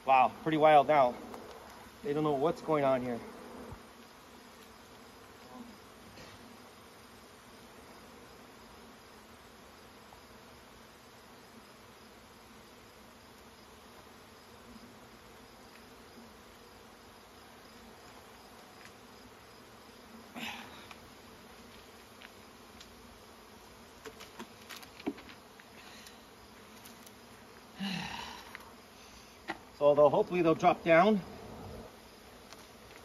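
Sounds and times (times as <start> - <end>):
honey bees buzzing: 0.0 - 33.0.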